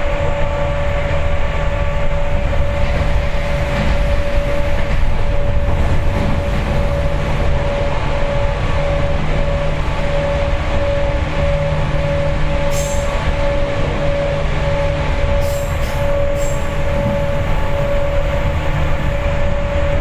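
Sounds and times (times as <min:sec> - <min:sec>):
mid-pitched train hum: 0:00.0 - 0:20.0
train wheels rumbling on rails: 0:00.0 - 0:20.0.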